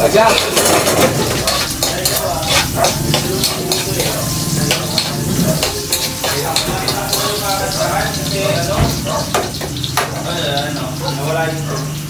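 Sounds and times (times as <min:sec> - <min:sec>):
metal spatula scraping wok: 0:00.0 - 0:10.0
garlic sizzling in hot oil: 0:00.0 - 0:12.0.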